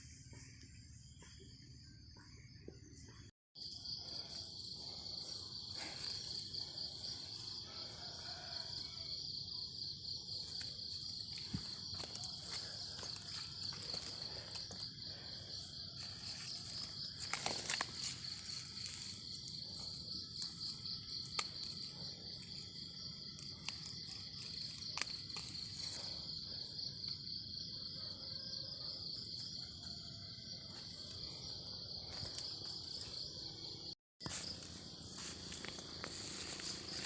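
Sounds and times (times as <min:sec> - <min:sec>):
insect chorus trilling: 0:00.0 - 0:37.0.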